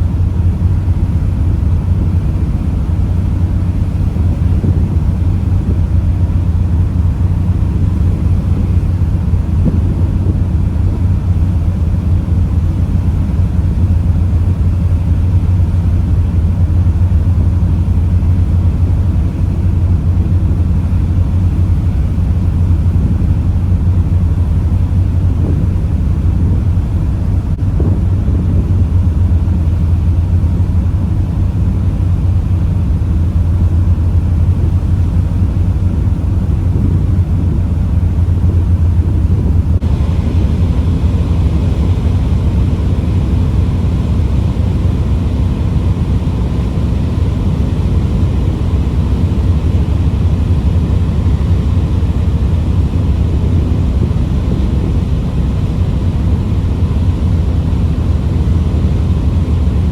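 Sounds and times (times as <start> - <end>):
ship engines rumbling: 0.0 - 59.9.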